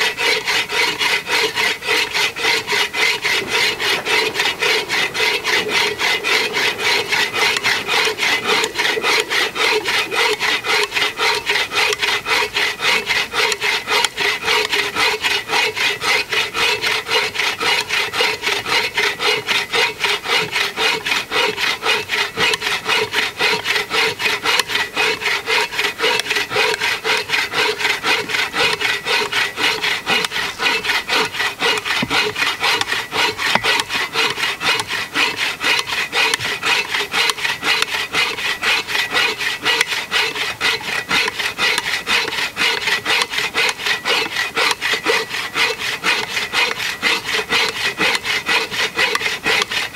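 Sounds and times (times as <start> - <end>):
bow saw rasping through log: 0.0 - 49.9.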